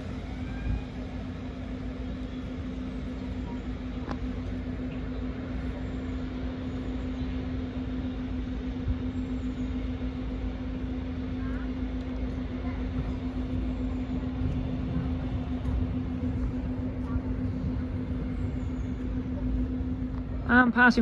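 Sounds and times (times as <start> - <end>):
diesel train engine drone: 0.0 - 21.0
low train rumble: 0.0 - 21.0.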